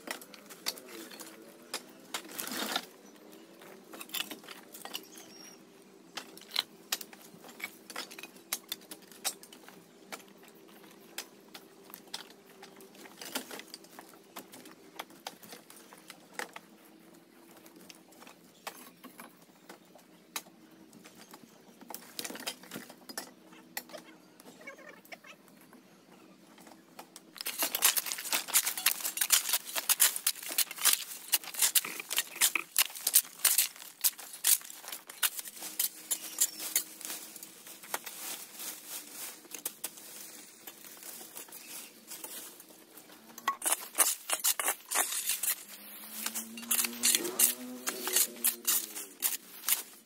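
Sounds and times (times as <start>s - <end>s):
crackling and rustling: 0.0s - 25.8s, 26.4s - 50.0s.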